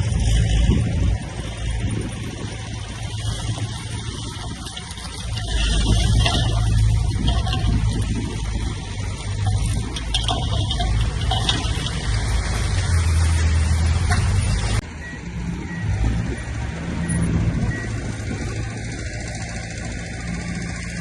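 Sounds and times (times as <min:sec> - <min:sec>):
diesel machinery under load: 0:00.0 - 0:21.0
quieter engine running: 0:00.0 - 0:21.0.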